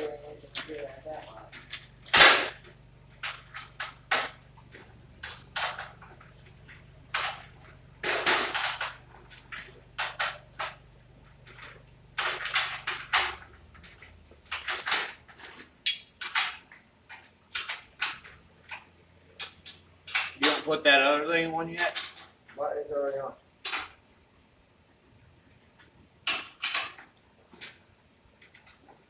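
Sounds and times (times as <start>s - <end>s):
knocks and metallic clatters: 0.0s - 21.0s, 21.7s - 22.6s, 23.5s - 24.1s, 25.7s - 29.0s.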